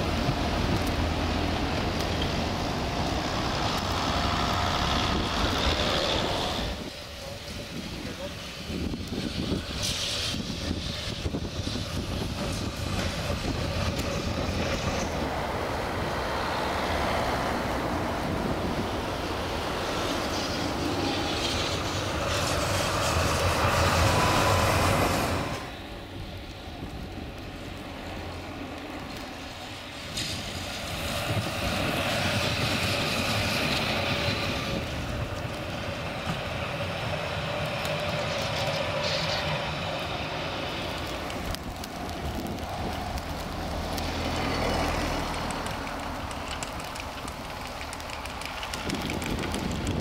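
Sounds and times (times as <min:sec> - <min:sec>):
tram running past: 0:00.0 - 0:50.0.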